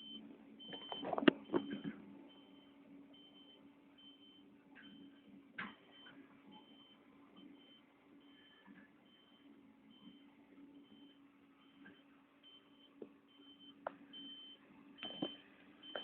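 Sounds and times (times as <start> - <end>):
reversing alarm beeping: 0.0 - 16.0.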